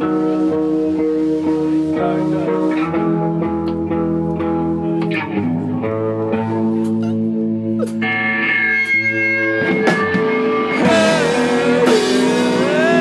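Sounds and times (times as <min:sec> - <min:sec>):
bass guitar: 0:00.0 - 0:13.0
guitars playing sustained chords: 0:00.0 - 0:13.0.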